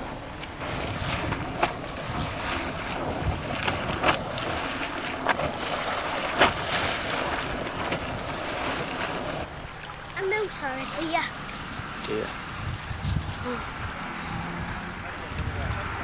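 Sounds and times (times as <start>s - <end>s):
wind buffeting microphone: 0.0s - 9.6s, 10.2s - 16.0s
boiling pool churning and hissing: 0.0s - 16.0s.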